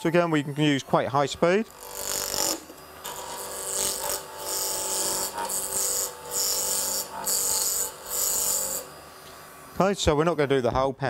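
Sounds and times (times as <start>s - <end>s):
lathe motor whining: 0.0s - 10.8s.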